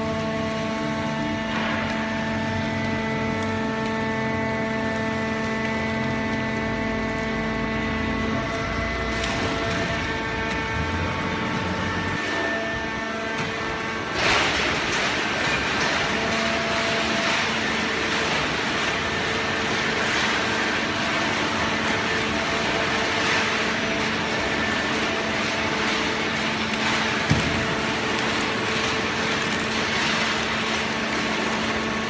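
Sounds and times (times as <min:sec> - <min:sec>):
baler mechanical hum: 0:00.0 - 0:32.0.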